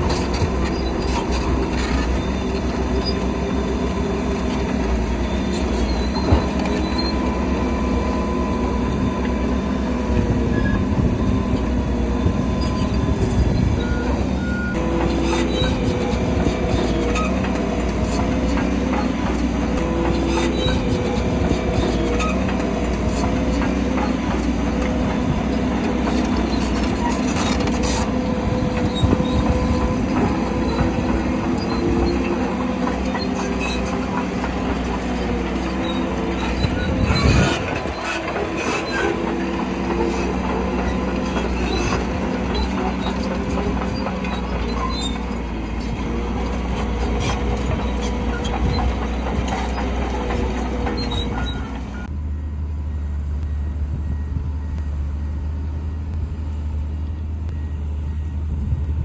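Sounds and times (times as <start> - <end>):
steel tracks clanking and squealing: 0.0 - 52.4
bulldozer diesel engine under load: 0.0 - 59.0.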